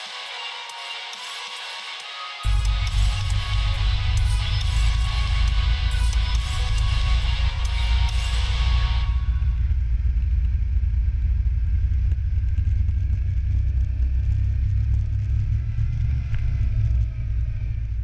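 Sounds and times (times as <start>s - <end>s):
muffled snowmobile engine rumble: 2.4s - 18.0s.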